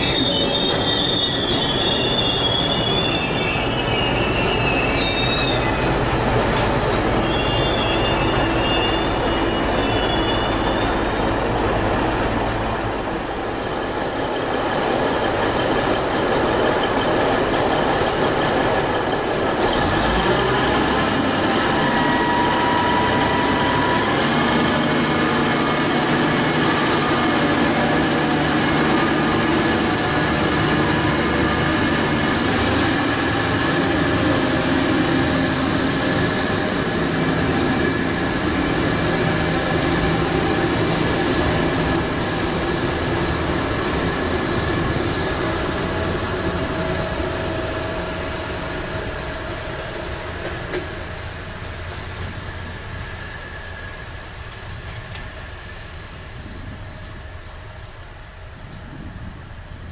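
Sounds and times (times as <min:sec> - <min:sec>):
diesel train engines droning: 0:00.0 - 0:59.9.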